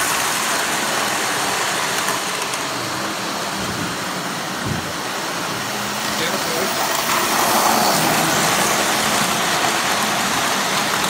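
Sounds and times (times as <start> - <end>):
model train wheels and motors: 0.0 - 11.0.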